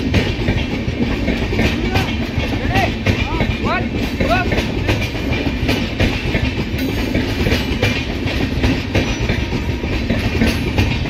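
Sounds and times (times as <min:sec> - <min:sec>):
train wheels clattering over rail joints: 0:00.0 - 0:11.0.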